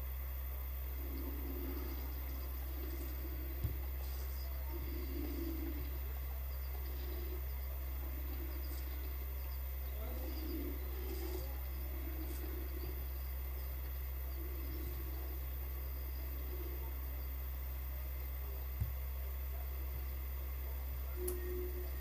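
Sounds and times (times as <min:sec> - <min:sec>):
low electrical hum: 0:00.0 - 0:22.0
bird cooing: 0:00.8 - 0:22.0.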